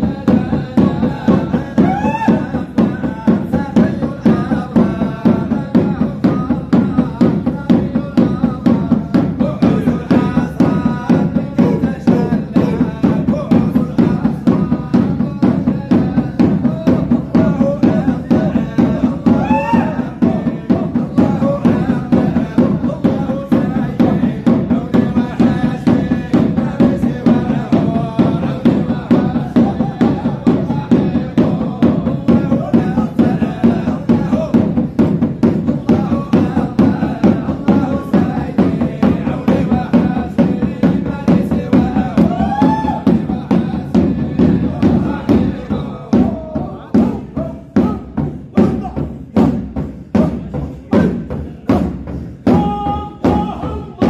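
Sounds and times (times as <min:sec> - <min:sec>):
frame drum beat: 0:00.0 - 0:54.0
men chanting together: 0:00.0 - 0:54.0.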